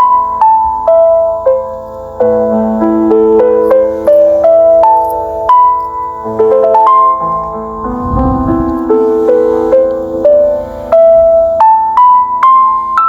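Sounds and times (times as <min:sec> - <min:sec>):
slow calm piano music: 0:00.0 - 0:13.0.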